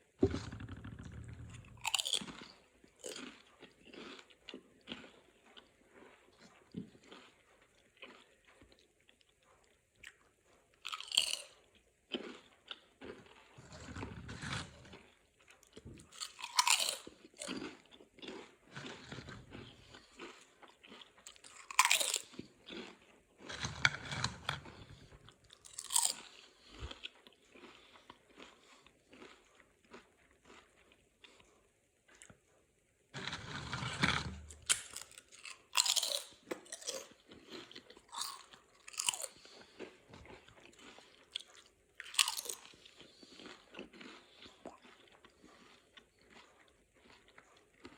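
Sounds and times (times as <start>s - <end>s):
chips crunching and chewing: 0.0s - 32.6s, 33.2s - 47.9s.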